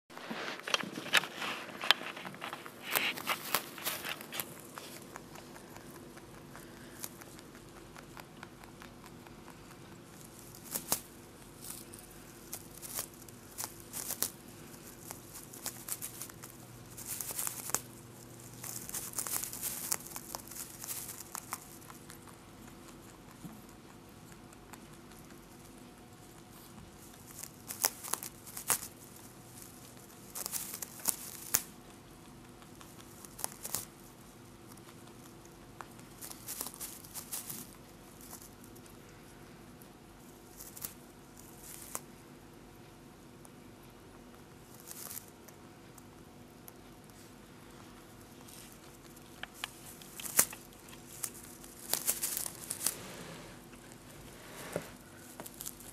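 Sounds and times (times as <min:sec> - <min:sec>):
rabbit gnawing straw: 0:00.1 - 0:55.9.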